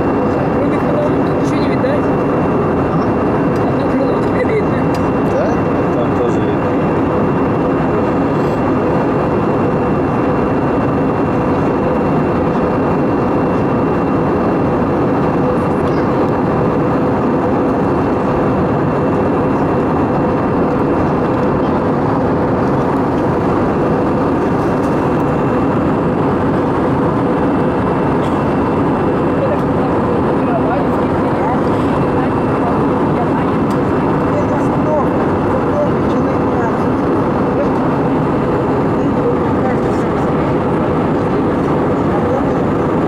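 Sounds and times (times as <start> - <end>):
airplane cabin engine and airflow noise: 0.0 - 43.0.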